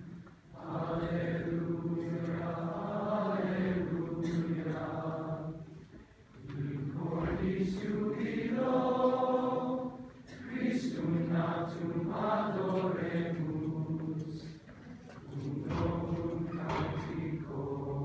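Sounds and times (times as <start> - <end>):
choir singing a carol: 0.0 - 18.0.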